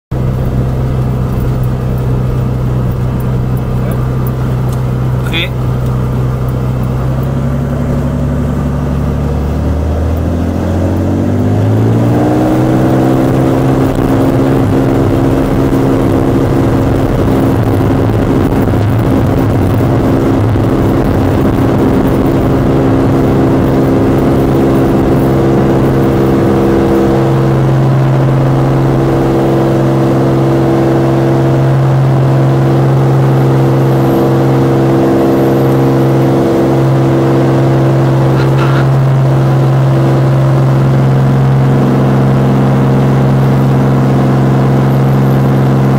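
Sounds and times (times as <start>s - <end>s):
propeller aircraft engine: 0.1s - 45.9s.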